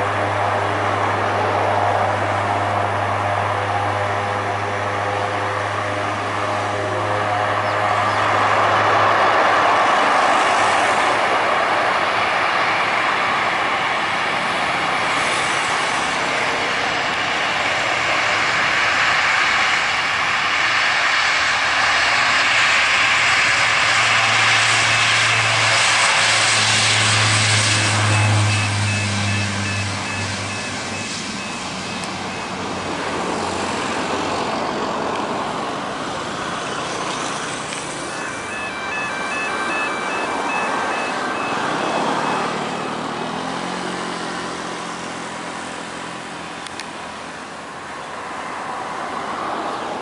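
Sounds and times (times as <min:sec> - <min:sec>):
turboprop engines droning: 0:00.0 - 0:50.0.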